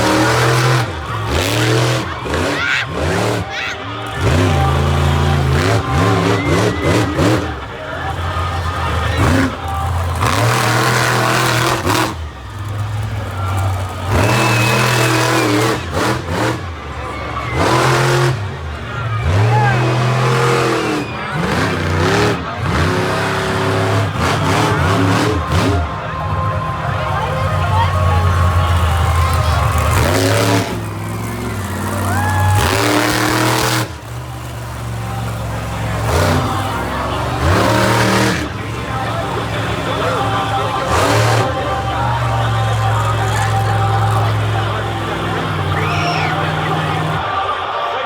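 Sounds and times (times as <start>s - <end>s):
monster truck engine revving: 0.0s - 48.0s.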